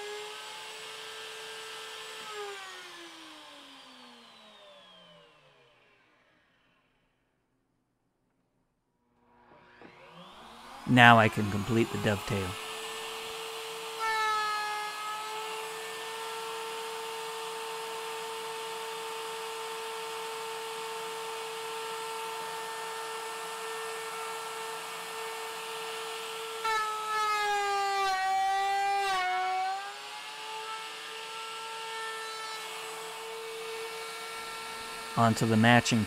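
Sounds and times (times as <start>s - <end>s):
router whining: 0.0s - 7.1s, 9.2s - 36.0s.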